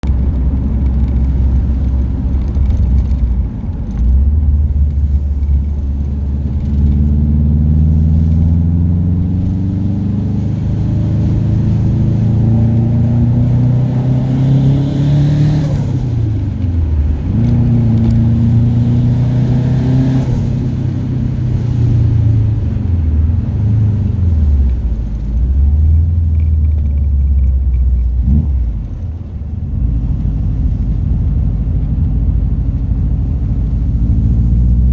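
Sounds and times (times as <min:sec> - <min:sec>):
turbocharged car engine accelerating: 0:00.0 - 0:34.9.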